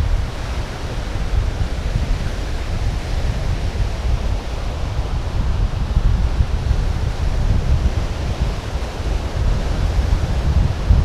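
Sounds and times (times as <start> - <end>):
surf washing: 0.0 - 11.0
wind buffeting microphone: 0.0 - 11.0.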